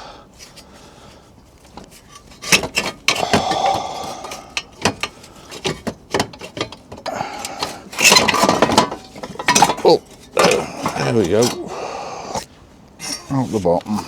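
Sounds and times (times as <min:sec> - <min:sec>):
metal clanking and scraping: 0:01.6 - 0:11.8, 0:12.4 - 0:14.0.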